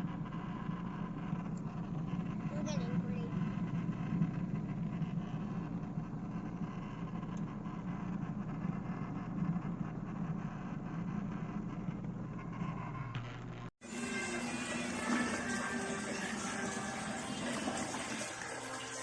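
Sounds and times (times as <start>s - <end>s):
washing machine motor churning: 0.0s - 13.0s, 13.6s - 19.0s.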